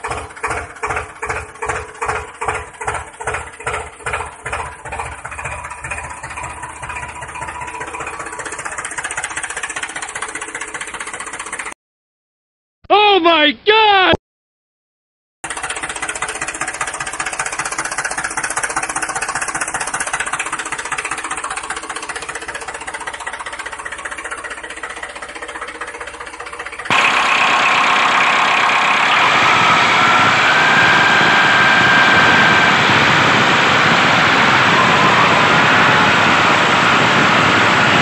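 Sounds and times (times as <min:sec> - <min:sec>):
engine running with knocking beat: 0:00.0 - 0:11.8, 0:15.4 - 0:38.0
smooth engine running: 0:00.0 - 0:11.8, 0:15.4 - 0:38.0.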